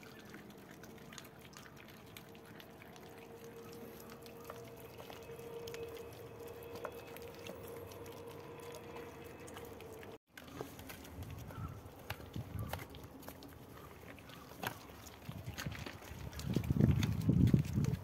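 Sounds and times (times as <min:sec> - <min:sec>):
puppies chewing and lapping: 0:00.0 - 0:18.0.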